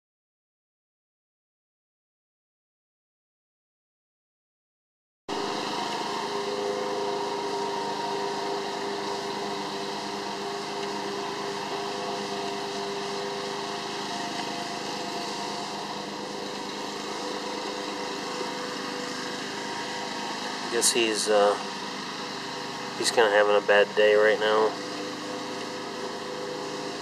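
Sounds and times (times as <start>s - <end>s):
motor hum and hiss: 5.3s - 27.0s.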